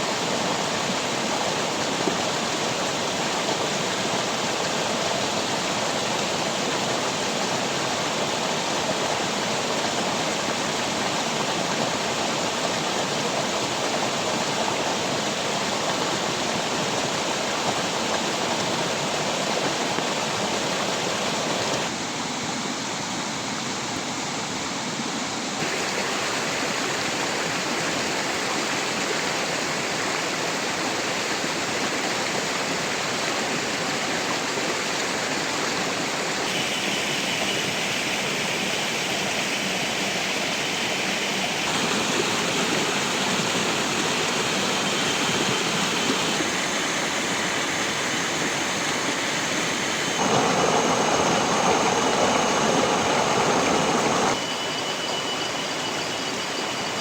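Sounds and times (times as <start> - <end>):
rushing water: 0.0 - 23.8, 25.6 - 57.0.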